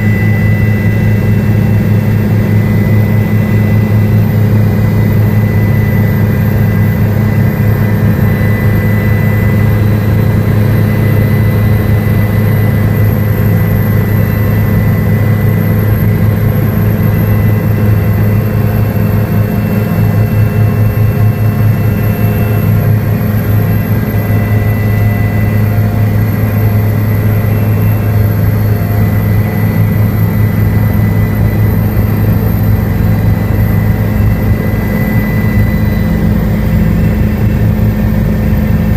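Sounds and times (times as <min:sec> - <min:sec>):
helicopter engine and rotor drone: 0:00.0 - 0:38.9
high turbine whine: 0:00.0 - 0:38.9.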